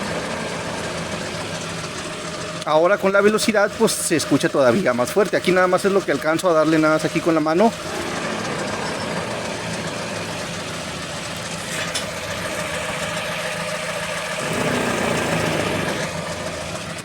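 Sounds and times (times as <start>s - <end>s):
wheel bearing rumbling growl: 0.0s - 17.0s.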